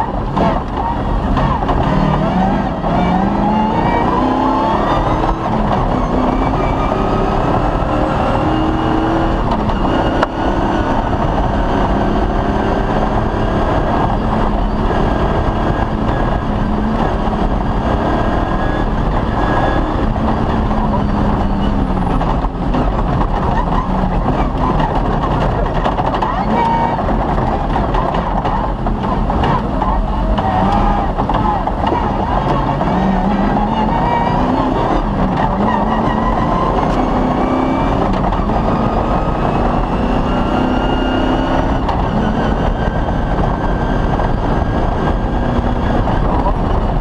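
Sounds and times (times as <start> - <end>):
rally car engine revving: 0.0 - 47.0.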